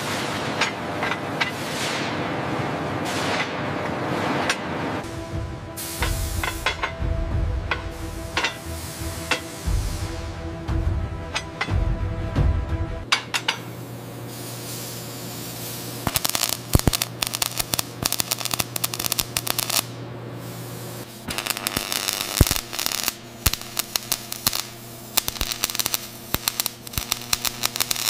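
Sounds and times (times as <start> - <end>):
welding arc crackling and sizzling: 0.0 - 10.7, 13.1 - 28.0
steady low hum: 4.7 - 28.0.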